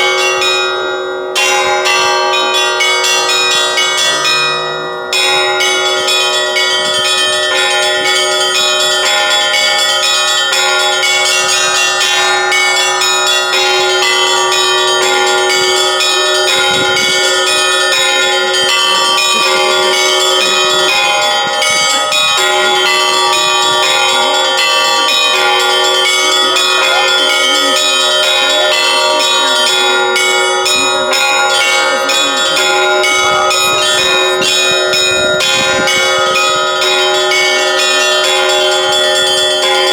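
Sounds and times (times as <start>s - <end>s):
ringing low bell tones: 0.0s - 39.9s
small bells struck rapidly: 0.0s - 39.9s.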